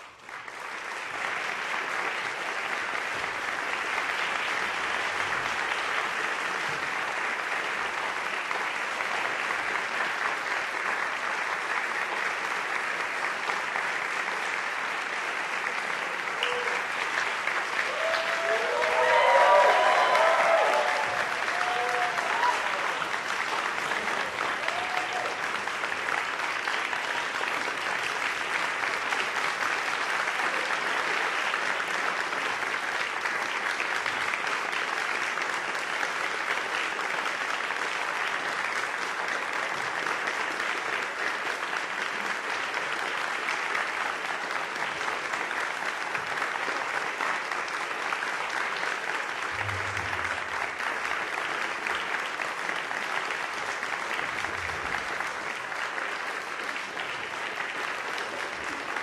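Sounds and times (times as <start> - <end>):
audience applauding: 0.0 - 59.0.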